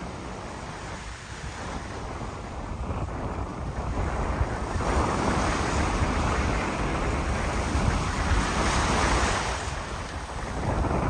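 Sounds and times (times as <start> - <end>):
sea surf washing on shore: 0.0 - 11.0
wind rumbling on microphone: 0.0 - 11.0.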